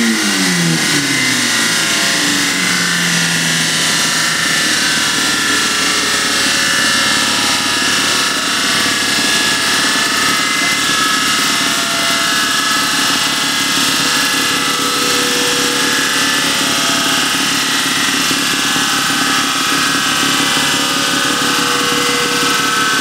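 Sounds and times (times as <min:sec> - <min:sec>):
race car engine running steadily: 0:00.0 - 0:23.0.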